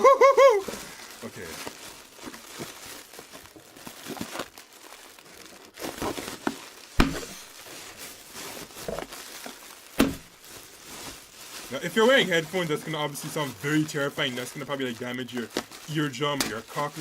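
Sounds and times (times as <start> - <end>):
bubble wrap crinkling: 0.0 - 17.0
bubble wrap popping: 0.0 - 17.0.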